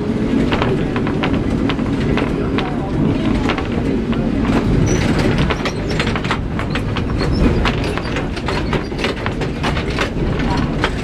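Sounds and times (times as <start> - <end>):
tram motors and wheels rumbling: 0.0 - 11.0
wheels clicking on rails: 0.0 - 11.0.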